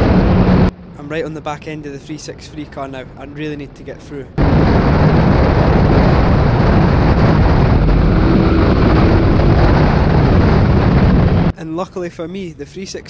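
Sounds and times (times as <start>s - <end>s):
wind noise: 0.0s - 11.6s
road noise: 0.0s - 13.0s.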